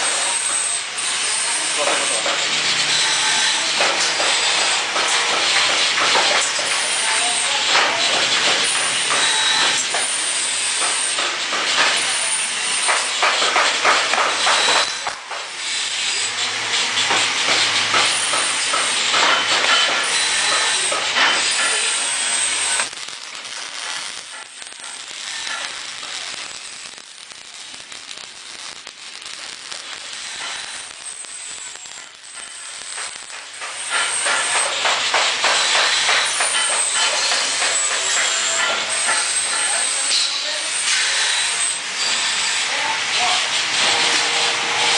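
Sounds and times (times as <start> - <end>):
welding arc hissing and crackling: 0.0 - 44.9.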